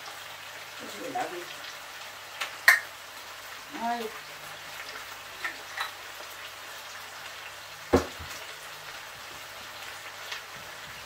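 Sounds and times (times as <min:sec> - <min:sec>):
chicken frying in a pan: 0:00.0 - 0:11.0.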